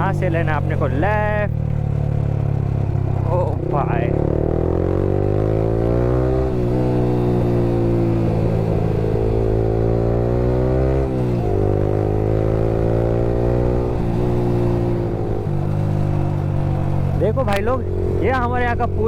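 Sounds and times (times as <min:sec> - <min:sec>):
motorcycle engine while riding: 0:00.0 - 0:19.0.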